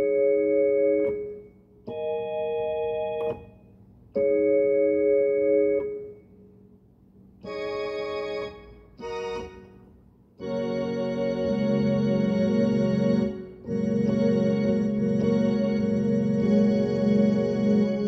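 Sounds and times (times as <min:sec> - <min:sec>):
electronic keyboard organ chords: 0:00.0 - 0:06.2, 0:07.4 - 0:18.0.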